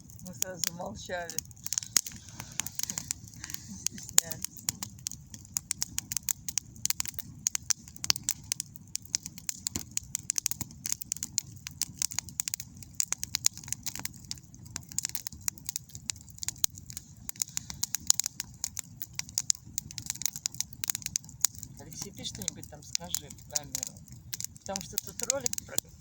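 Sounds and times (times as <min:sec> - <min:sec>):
campfire crackling and popping: 0:00.0 - 0:26.0
low steady rumble: 0:00.0 - 0:26.0.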